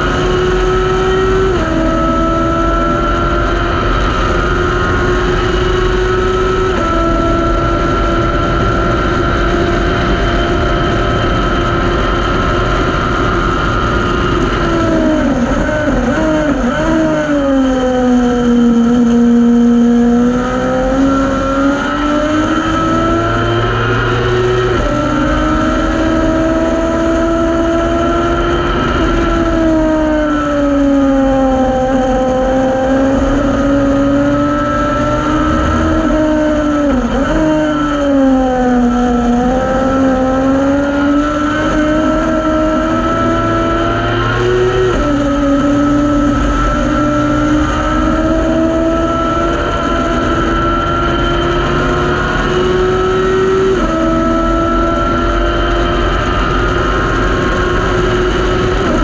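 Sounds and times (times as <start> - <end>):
race car engine: 0.0 - 59.0
wind noise: 0.0 - 59.0.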